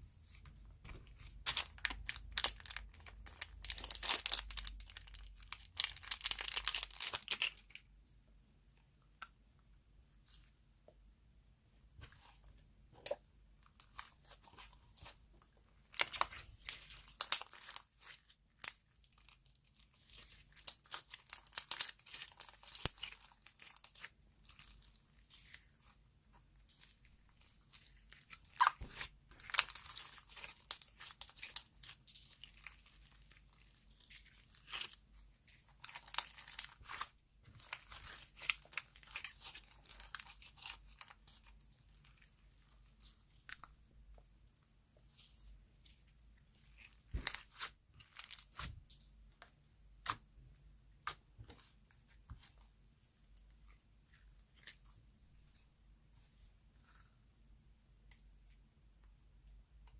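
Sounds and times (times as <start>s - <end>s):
clay slime crackling and tearing: 0.2s - 7.8s, 13.7s - 57.3s.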